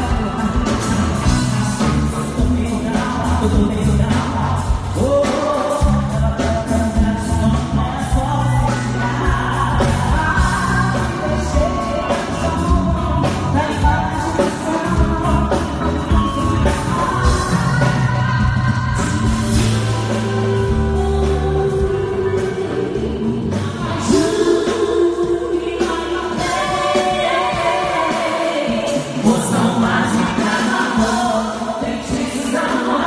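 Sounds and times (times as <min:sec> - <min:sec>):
live pop band with drums: 0:00.0 - 0:33.0
women singing: 0:00.0 - 0:33.0.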